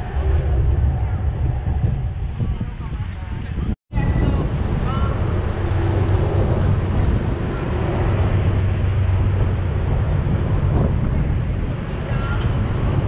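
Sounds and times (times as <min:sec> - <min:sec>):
ferry engine drone: 0:00.0 - 0:13.0
wind buffeting microphone: 0:00.0 - 0:13.0.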